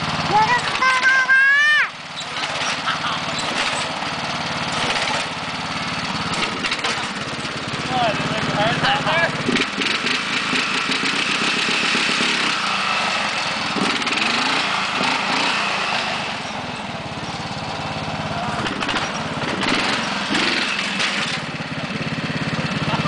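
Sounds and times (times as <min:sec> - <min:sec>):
riding lawn mower engine: 0:00.0 - 0:23.0.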